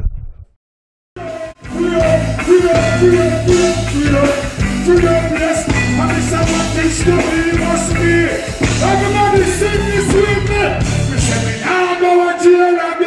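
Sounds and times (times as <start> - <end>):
live reggae music: 1.2 - 13.0.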